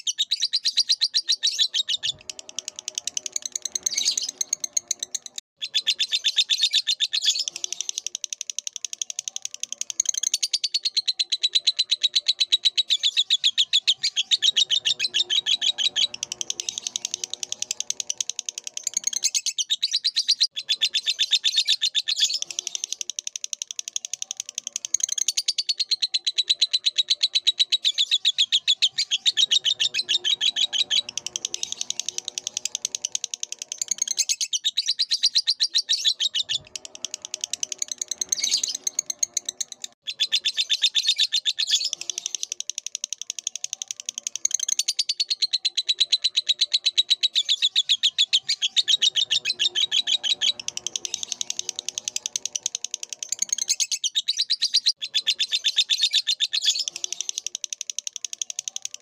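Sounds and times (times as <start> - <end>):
lovebird chirping song: 0.0 - 59.0.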